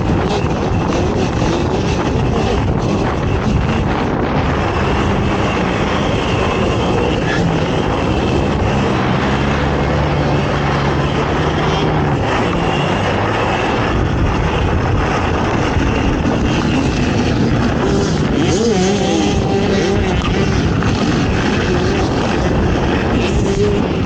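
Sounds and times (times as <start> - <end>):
atv engine running hard: 0.0 - 24.0.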